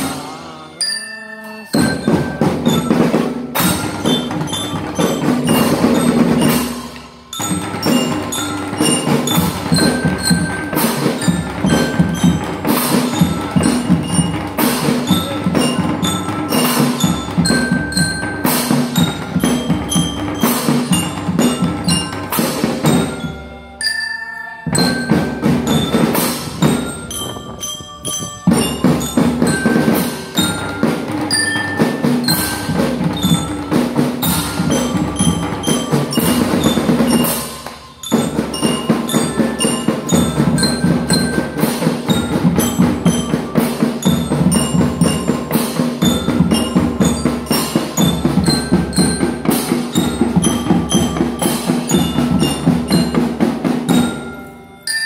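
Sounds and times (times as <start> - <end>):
drums beating steady rhythm: 0.0 - 55.0
glockenspiel melody: 0.0 - 55.0.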